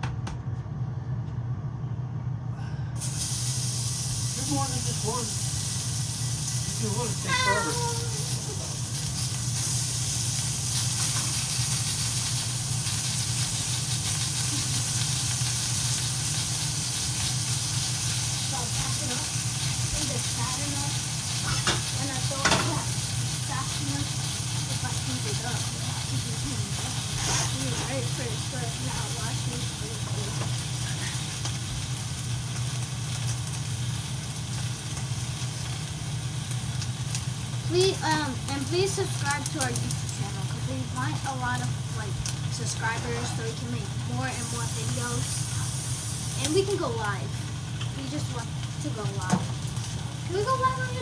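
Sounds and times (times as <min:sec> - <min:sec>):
steady low hum: 0:00.0 - 0:51.0
fat sizzling in a pan: 0:03.0 - 0:51.0.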